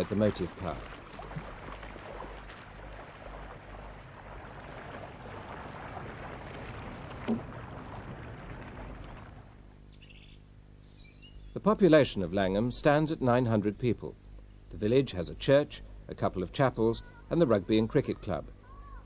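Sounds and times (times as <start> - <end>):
water: 0.0 - 10.6, 11.6 - 19.0
wind: 0.0 - 19.0.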